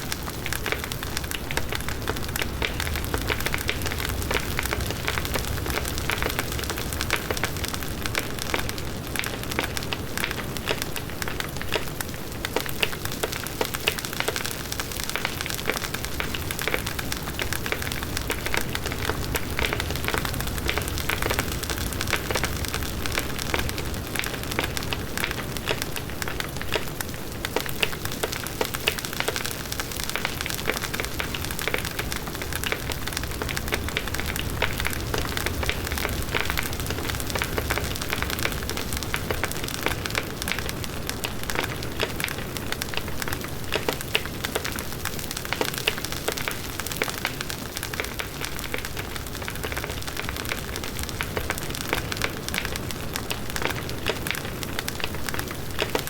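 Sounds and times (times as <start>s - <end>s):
bonfire crackling: 0.0s - 56.0s.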